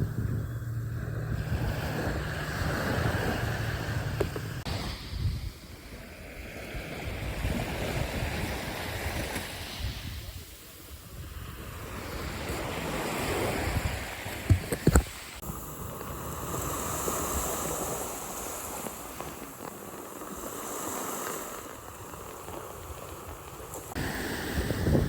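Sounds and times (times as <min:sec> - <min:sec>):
surf washing in: 0:00.0 - 0:25.0
wind on microphone: 0:00.0 - 0:25.0.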